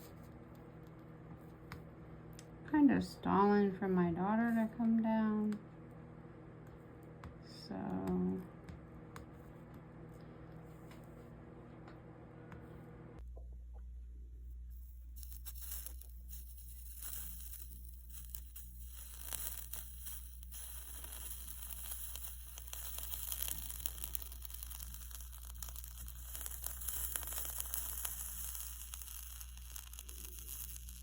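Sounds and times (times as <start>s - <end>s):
solder flux crackling sizzle: 0.0s - 11.5s, 14.4s - 31.0s
steady low hum: 0.0s - 31.0s.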